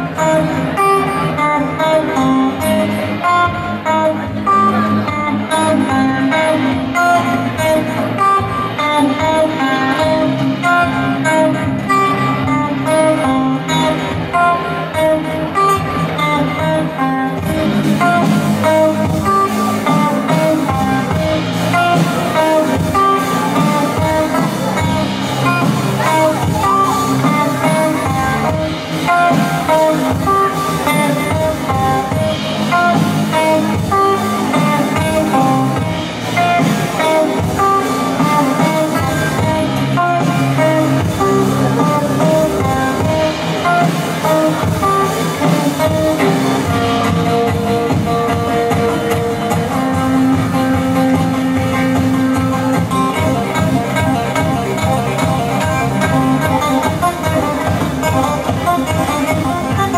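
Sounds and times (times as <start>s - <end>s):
acoustic guitar: 0.0s - 59.9s
drum kit: 0.0s - 59.9s
plucked double bass: 0.0s - 59.9s.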